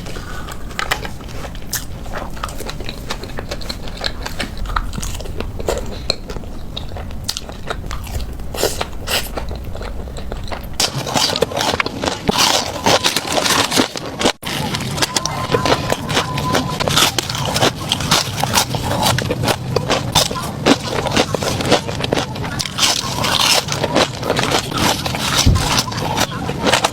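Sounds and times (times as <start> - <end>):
crunchy chewing of fries: 0.0 - 26.9.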